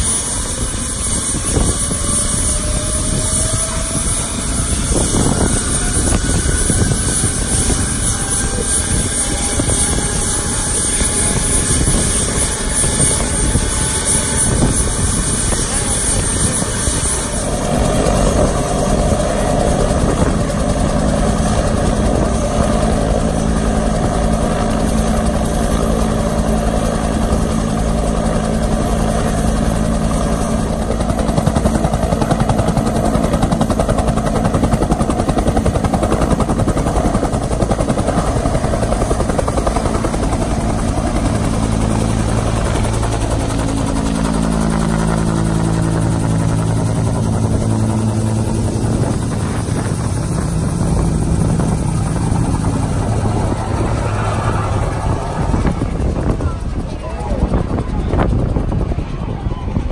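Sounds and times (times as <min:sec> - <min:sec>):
helicopter rotor beat: 0:00.0 - 0:59.9
helicopter turbine engine: 0:00.0 - 0:59.9.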